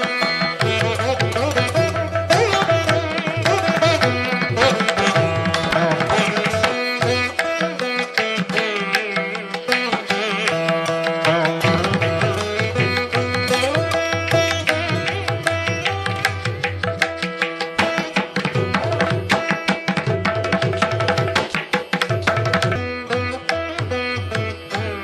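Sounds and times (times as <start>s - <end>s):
plucked string melody: 0.0s - 25.0s.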